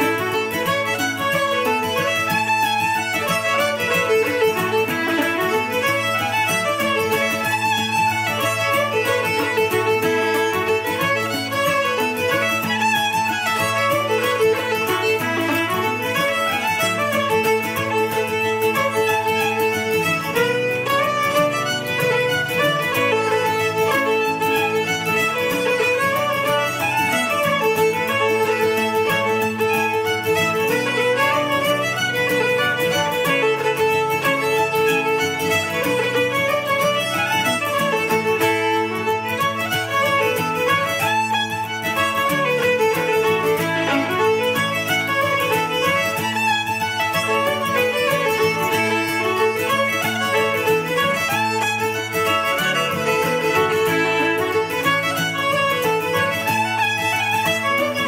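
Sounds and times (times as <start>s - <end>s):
plucked string chords: 0.0s - 58.0s
two fiddles playing a reel: 0.0s - 58.0s.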